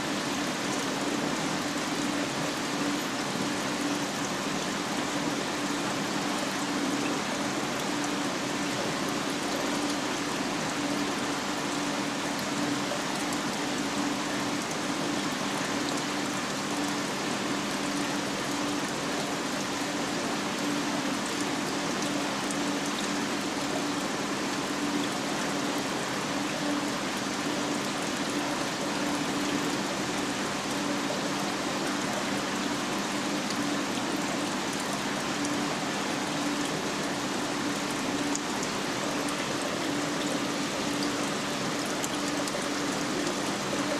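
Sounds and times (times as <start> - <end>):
low pump hum: 0.0 - 43.9
water rushing and trickling: 0.0 - 43.9.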